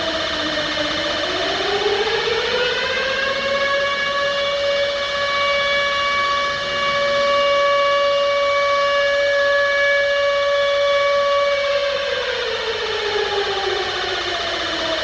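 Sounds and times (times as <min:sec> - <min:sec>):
siren steady tone: 0:00.0 - 0:15.0.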